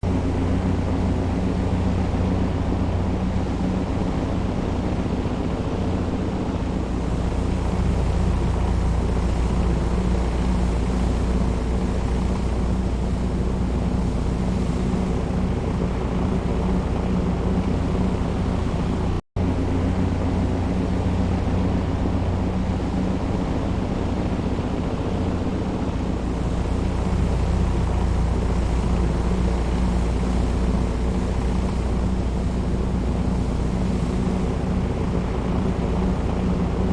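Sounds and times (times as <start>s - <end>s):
jet engine hum: 0.0s - 36.9s.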